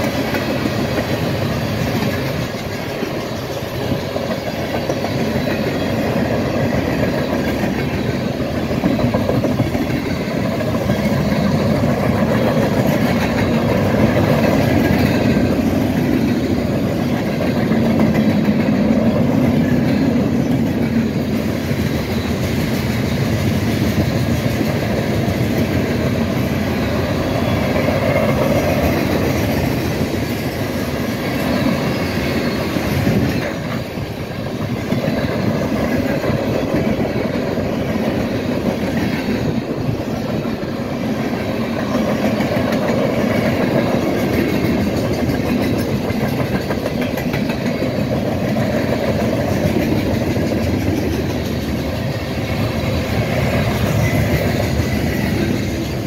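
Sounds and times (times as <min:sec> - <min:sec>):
clatter over rail joints: 0:00.0 - 0:56.0
train wheels rumbling on rail: 0:00.0 - 0:56.0.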